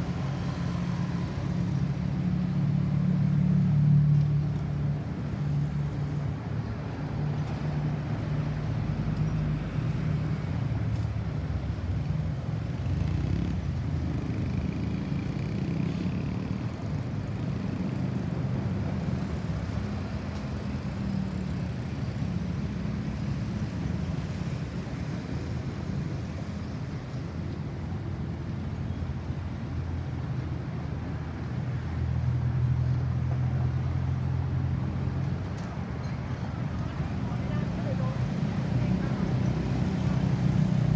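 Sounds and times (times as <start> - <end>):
road traffic noise: 0.0 - 40.9.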